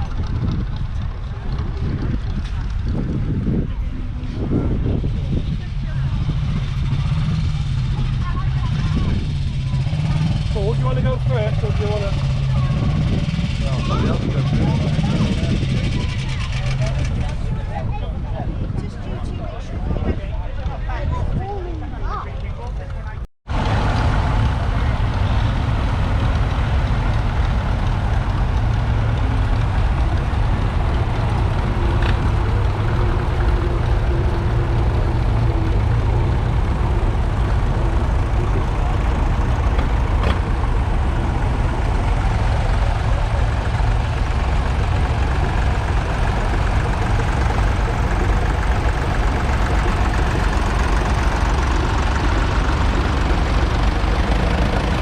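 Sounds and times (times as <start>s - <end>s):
tractor engine rumbling: 0.0s - 55.0s.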